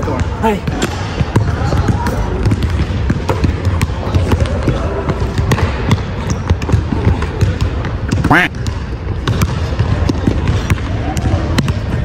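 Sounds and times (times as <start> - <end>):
basketball bouncing on court: 0.0 - 12.0.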